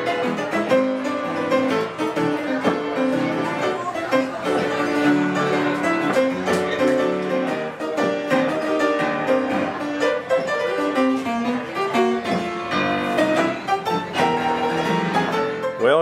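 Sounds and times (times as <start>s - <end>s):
upright piano playing quick tune: 0.0s - 16.0s.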